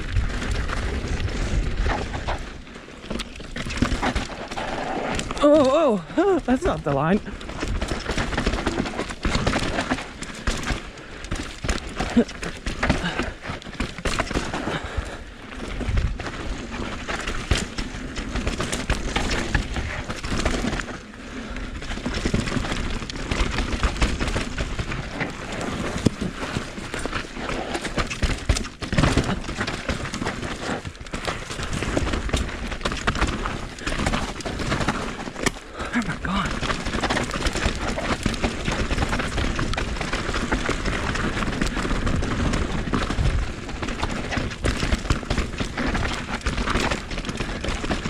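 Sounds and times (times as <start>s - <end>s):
tyres knocking on roots and rocks: 3.1s - 21.0s, 21.8s - 48.0s
bike chain and frame rattling: 7.0s - 35.8s, 36.5s - 48.0s.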